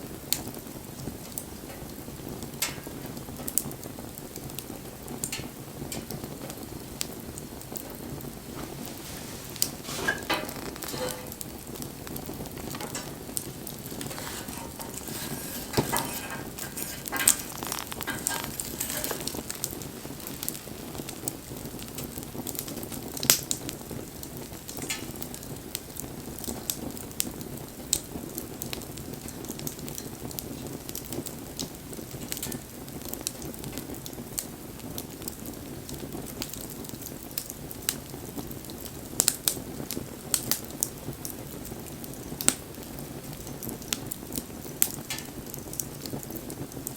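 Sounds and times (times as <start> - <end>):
bonfire crackling: 0.0 - 46.9.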